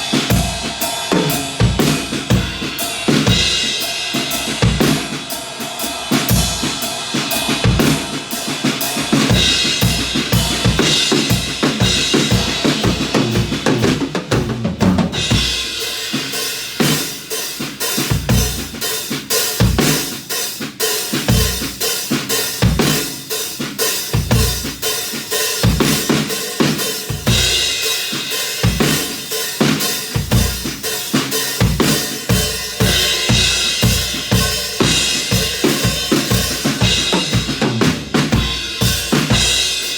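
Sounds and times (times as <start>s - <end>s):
acoustic drum kit groove: 0.0s - 39.9s.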